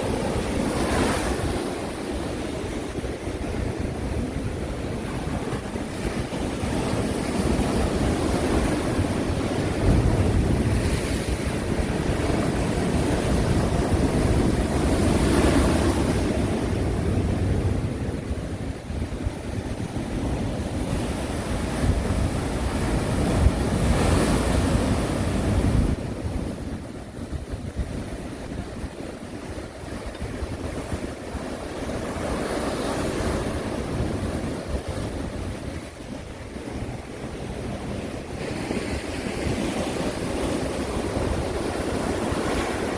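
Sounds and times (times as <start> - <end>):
sea waves breaking on shore: 0.0 - 42.9
wind rumble on microphone: 0.0 - 42.9.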